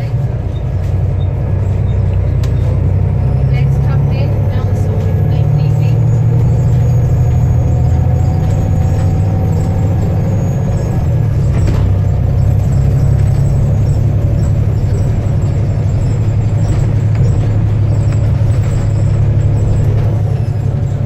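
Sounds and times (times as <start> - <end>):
bus diesel engine droning: 0.0 - 21.0.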